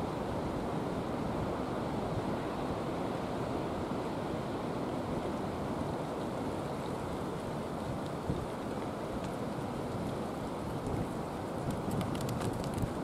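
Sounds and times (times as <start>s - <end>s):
low rushing outdoor noise: 0.0s - 13.0s.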